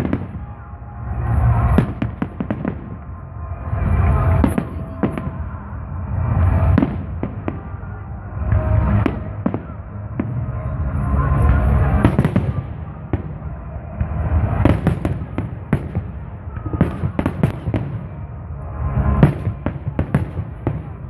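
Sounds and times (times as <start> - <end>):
fireworks bangs and cracks: 0.0 - 21.0.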